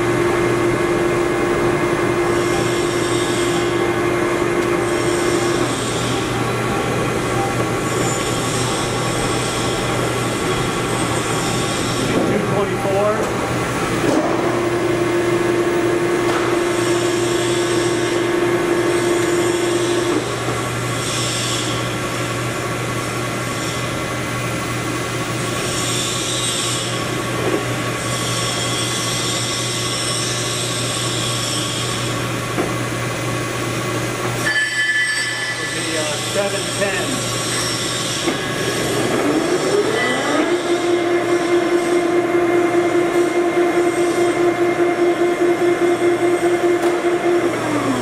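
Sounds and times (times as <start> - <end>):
lathe spindle turning: 0.0 - 22.0, 28.1 - 48.0
machine hum: 0.0 - 48.0.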